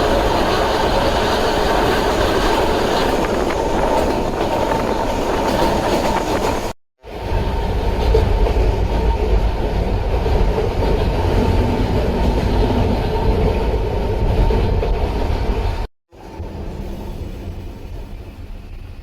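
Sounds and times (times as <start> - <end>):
electric train on rails: 0.0 - 19.0.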